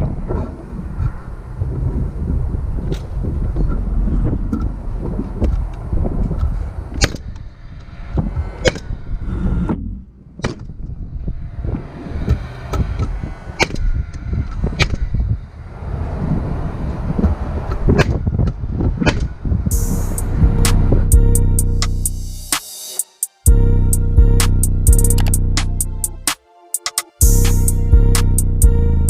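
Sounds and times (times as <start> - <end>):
steady low rumble: 0.0 - 22.6, 23.5 - 26.3, 27.2 - 29.0.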